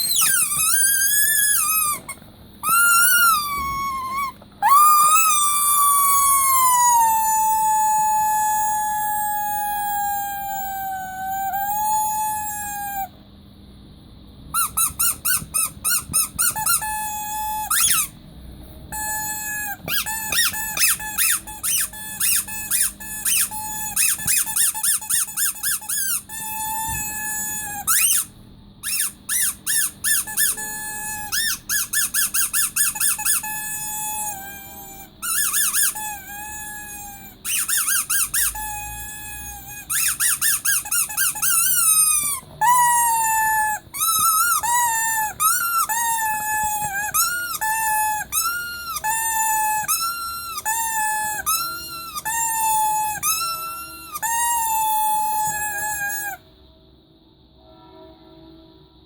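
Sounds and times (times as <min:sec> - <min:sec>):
rubber squeaky toy squeaking: 0:00.0 - 0:13.1, 0:14.6 - 0:18.2, 0:18.9 - 0:56.4.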